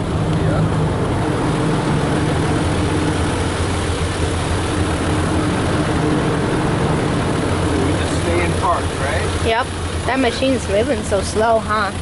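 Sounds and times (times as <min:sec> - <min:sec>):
car wash machinery droning: 0:00.0 - 0:12.0.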